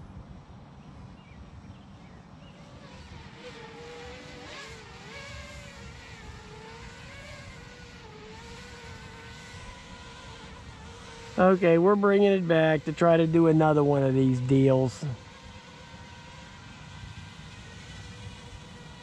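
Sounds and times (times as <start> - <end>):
drone propellers whining: 2.0 - 19.0.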